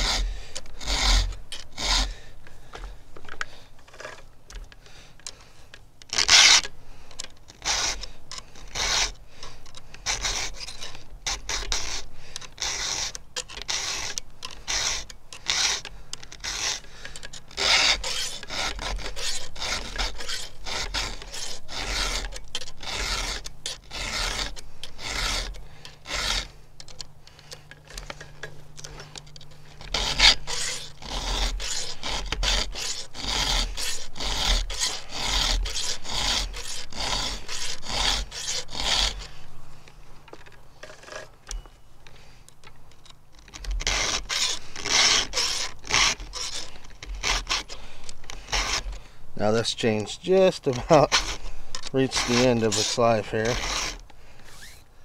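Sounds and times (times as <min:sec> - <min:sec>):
file rasping on chainsaw chain: 0:00.0 - 0:02.2, 0:06.1 - 0:06.7, 0:07.5 - 0:39.4, 0:43.3 - 0:54.8.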